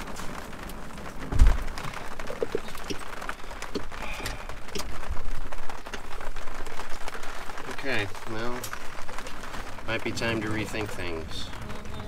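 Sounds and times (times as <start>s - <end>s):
heavy rain on a roof: 0.0s - 12.0s.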